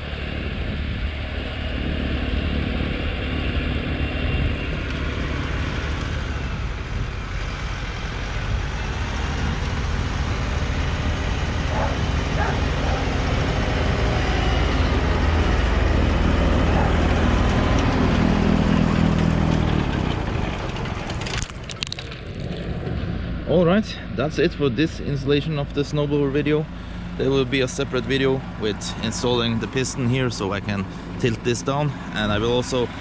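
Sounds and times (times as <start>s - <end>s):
snowblower rushing noise: 0.0s - 33.0s
tractor engine running: 0.0s - 33.0s.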